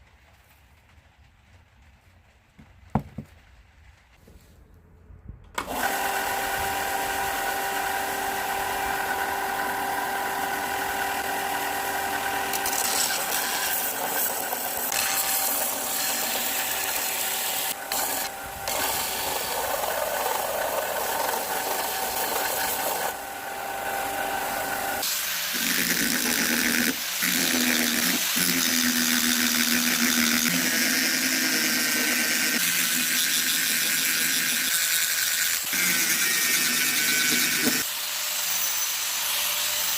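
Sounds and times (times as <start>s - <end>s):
power tool grinding metal: 5.6s - 39.9s.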